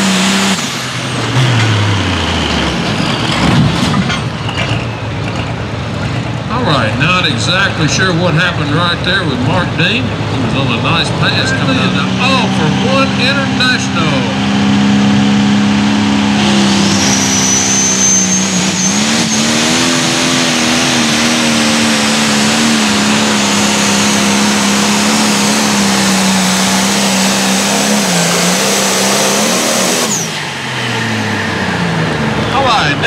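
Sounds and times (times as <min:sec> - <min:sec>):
diesel tractor engine under load: 0:00.0 - 0:33.0
high turbo whine: 0:00.0 - 0:33.0.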